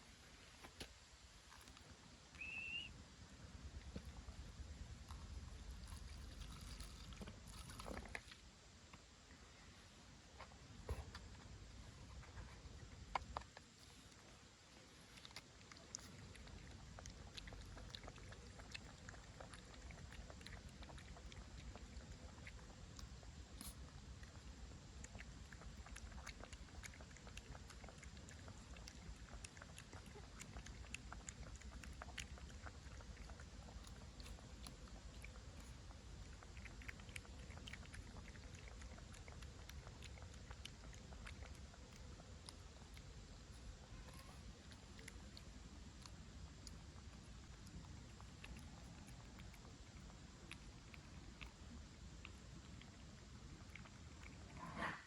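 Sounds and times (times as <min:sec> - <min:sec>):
puppy chewing: 0:03.6 - 0:09.4, 0:10.4 - 0:55.0.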